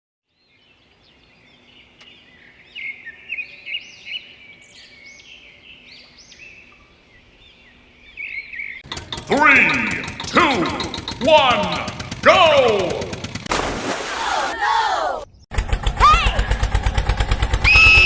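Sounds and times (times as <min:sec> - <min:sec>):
birds chirping: 0:00.2 - 0:13.3, 0:15.0 - 0:16.7.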